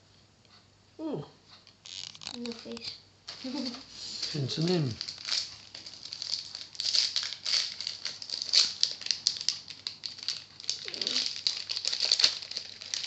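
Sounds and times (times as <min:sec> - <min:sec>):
foil wrapper crinkling and tearing: 0:01.9 - 0:13.0.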